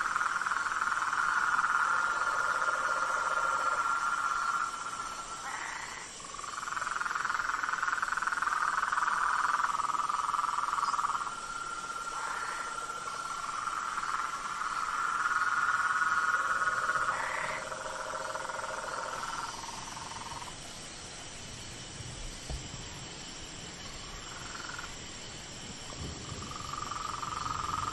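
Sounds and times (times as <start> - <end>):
frogs trilling: 0.0 - 27.9.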